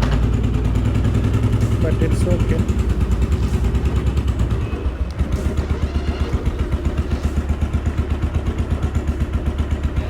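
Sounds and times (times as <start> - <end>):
motorcycle engine at low revs: 0.0 - 10.0.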